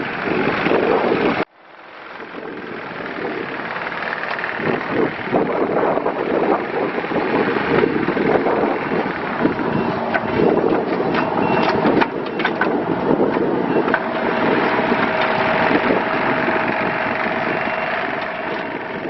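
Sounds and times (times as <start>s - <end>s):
mini excavator diesel engine: 0.0s - 19.0s
steady whine: 0.0s - 19.0s.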